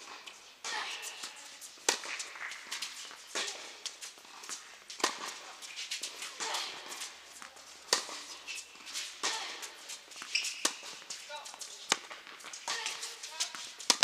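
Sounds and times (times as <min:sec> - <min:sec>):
tennis balls struck by rackets: 0:00.0 - 0:14.0.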